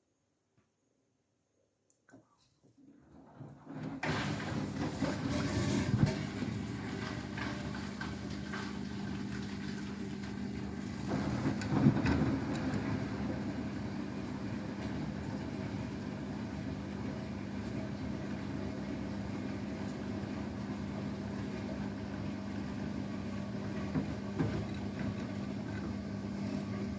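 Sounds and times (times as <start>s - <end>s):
washing machine churning: 3.0s - 26.9s
washing machine humming: 3.0s - 26.9s.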